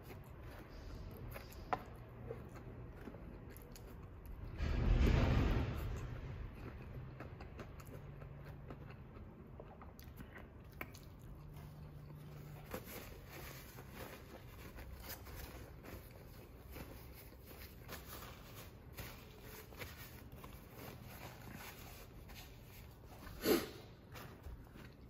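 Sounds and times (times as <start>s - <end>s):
person chewing crispy food: 0.0s - 4.6s, 5.9s - 25.0s.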